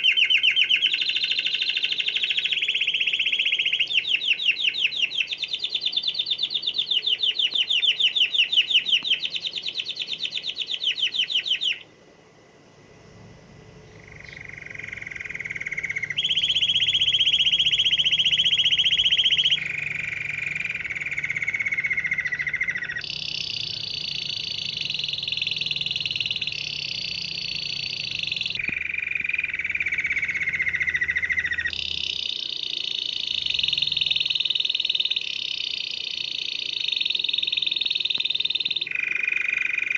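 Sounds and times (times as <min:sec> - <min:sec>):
canary singing trilled rolls: 0:00.0 - 0:11.9, 0:12.5 - 0:39.9.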